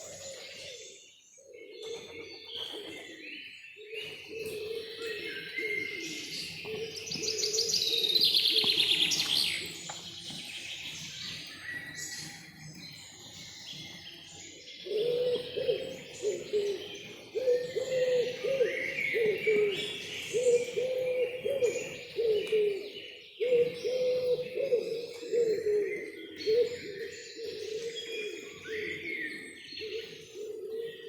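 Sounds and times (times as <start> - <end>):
songbirds singing: 0.0 - 31.0.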